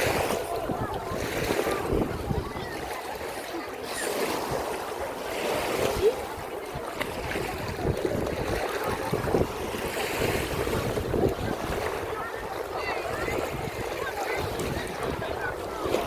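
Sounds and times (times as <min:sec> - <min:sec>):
wind on microphone: 0:00.0 - 0:03.0, 0:04.1 - 0:16.0
waves washing onto shore: 0:00.0 - 0:16.0.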